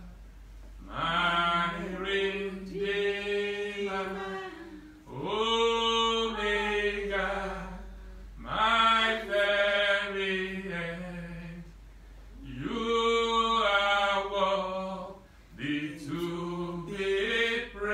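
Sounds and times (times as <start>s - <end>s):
man singing unaccompanied: 0.9s - 11.7s, 12.4s - 17.9s.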